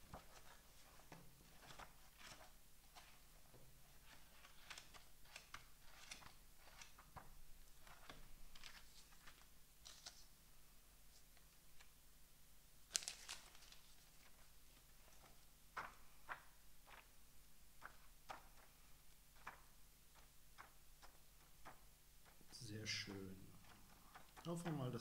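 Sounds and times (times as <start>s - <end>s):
book pages rustling: 0.0s - 10.4s, 11.1s - 12.0s, 12.9s - 25.0s.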